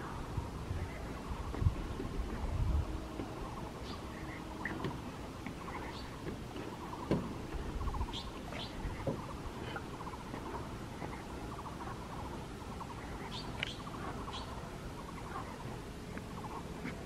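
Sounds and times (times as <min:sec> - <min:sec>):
low rumble: 0:00.0 - 0:16.8
birds chirping: 0:00.0 - 0:17.0
bird rapid trills: 0:03.3 - 0:17.0.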